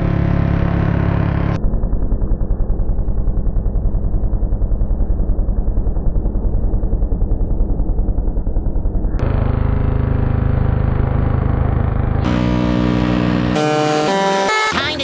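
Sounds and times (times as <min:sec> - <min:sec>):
deep rumble: 0:00.0 - 0:13.6.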